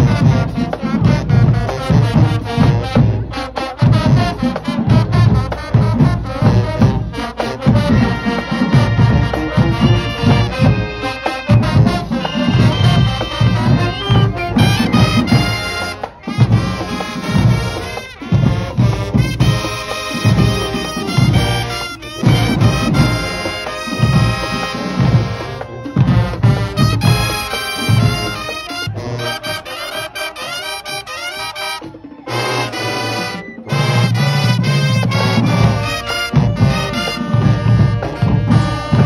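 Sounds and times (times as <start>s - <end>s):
brass section playing: 0.0s - 39.0s
pulsing drum beat: 0.0s - 39.0s.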